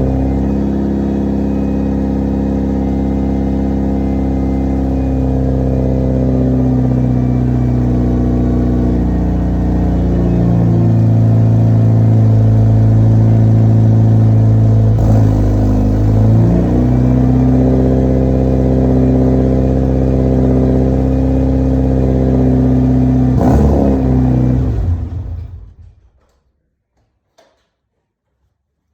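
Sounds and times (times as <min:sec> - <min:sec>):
car engine idling: 0:00.0 - 0:26.3.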